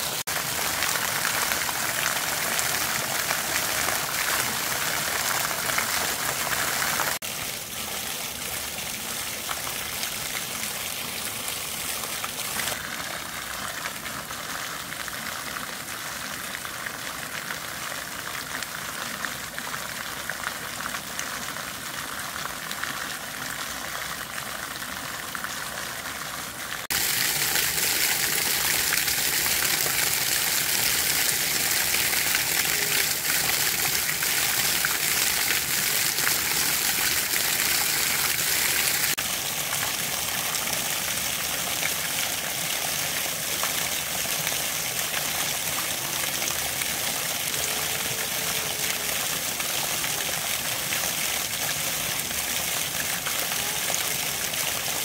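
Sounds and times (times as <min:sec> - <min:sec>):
flowing water of waterfall: 0:00.0 - 0:55.0.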